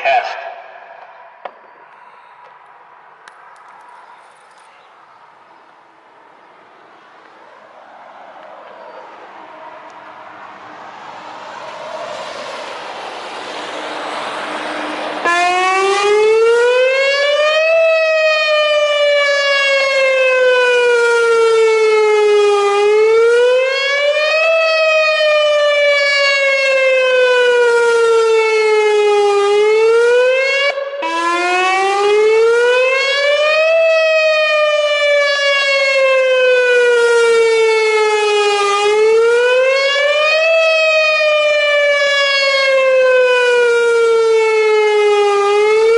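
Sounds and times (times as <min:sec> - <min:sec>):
warning siren wailing: 0:07.2 - 0:45.9.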